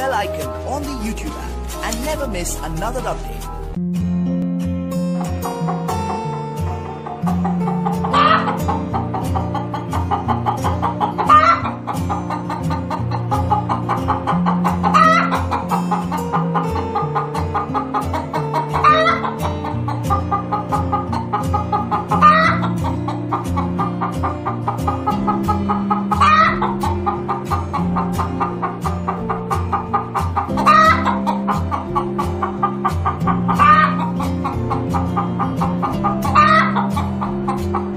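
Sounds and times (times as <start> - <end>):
background music with beat and bass: 0.0 - 37.9.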